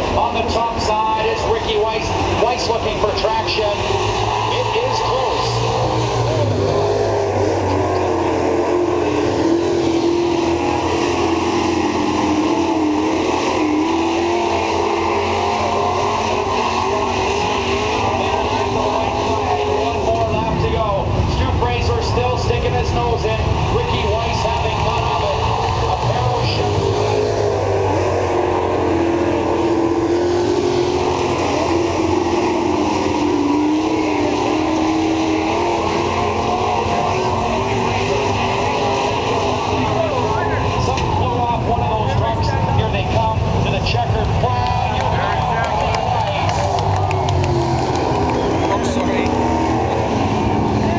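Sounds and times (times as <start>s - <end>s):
racing truck engines: 0.0s - 50.9s.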